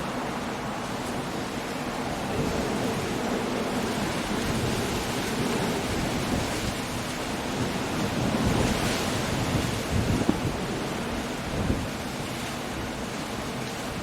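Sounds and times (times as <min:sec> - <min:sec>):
rain: 0:00.0 - 0:14.0
wind: 0:00.0 - 0:14.0.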